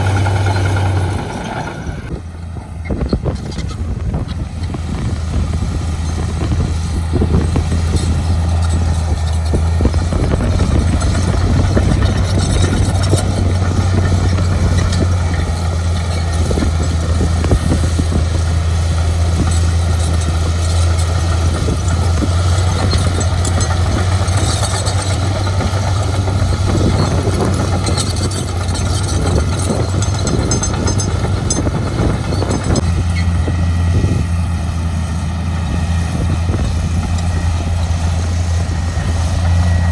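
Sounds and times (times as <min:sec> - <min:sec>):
heavy machinery engine droning: 0:00.0 - 0:39.9.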